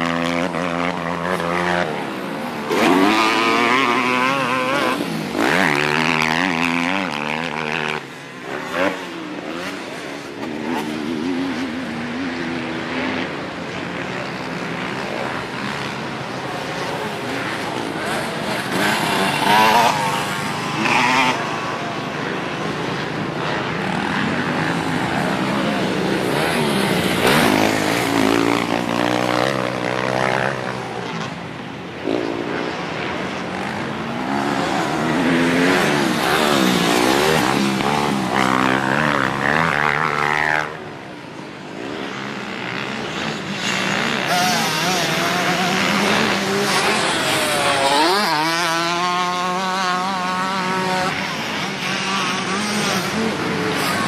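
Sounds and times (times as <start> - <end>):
dirt bike engine revving: 0.0 - 31.4, 32.0 - 40.8, 41.7 - 54.0.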